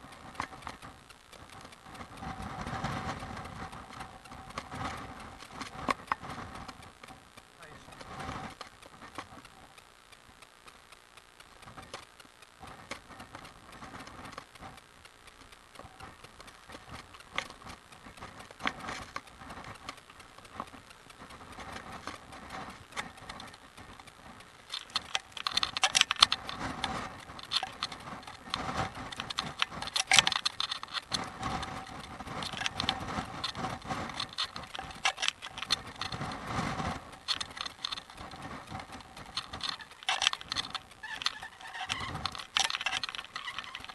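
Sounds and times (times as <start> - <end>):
bicycle rattling on rough road: 0.0 - 43.9.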